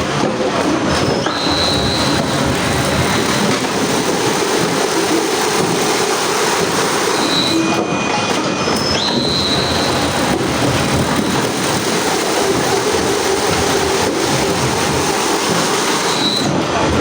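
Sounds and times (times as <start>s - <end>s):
wood-processing machinery running: 0.0s - 17.0s.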